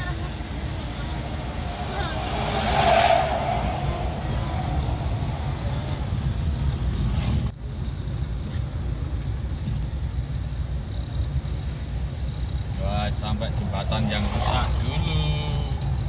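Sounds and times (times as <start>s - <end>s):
van engine and road rumble: 0.0s - 16.0s.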